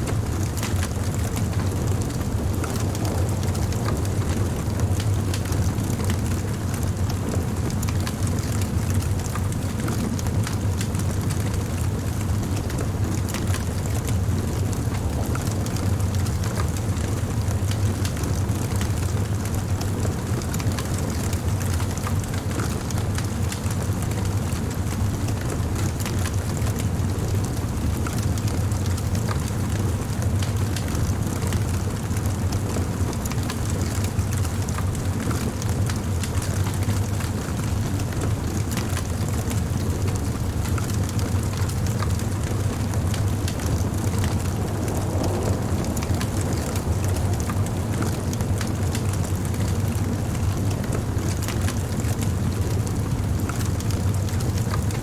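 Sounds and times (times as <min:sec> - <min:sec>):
bonfire flames crackling: 0:00.0 - 0:55.0.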